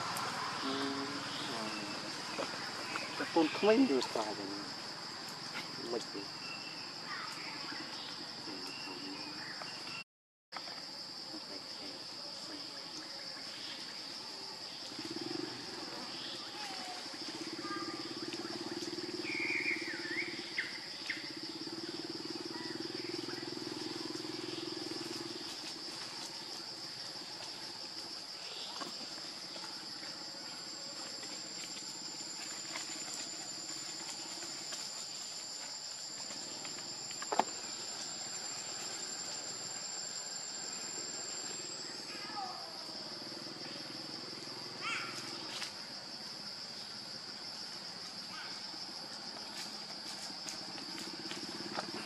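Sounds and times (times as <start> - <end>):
thin high insect whine: 0.0 - 10.0, 10.6 - 52.0
insects droning: 0.0 - 52.0.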